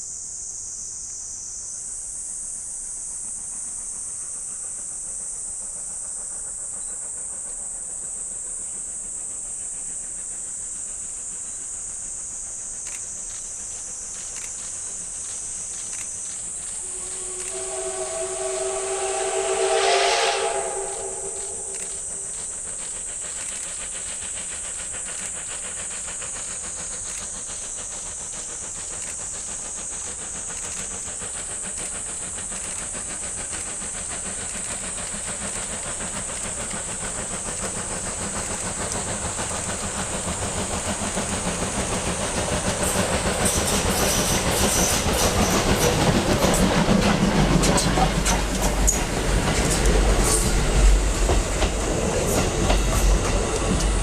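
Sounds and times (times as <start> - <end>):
steam hissing: 0.0 - 54.0
steam locomotive chuffing: 0.0 - 54.0.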